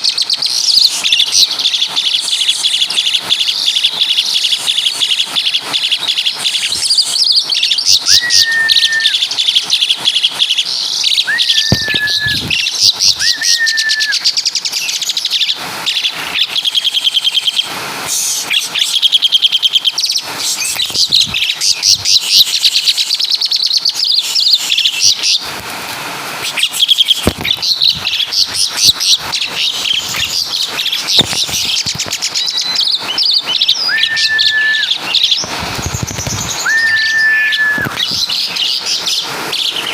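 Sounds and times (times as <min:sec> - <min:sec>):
starling singing chattering trills: 0:00.0 - 0:25.6, 0:26.4 - 0:39.9.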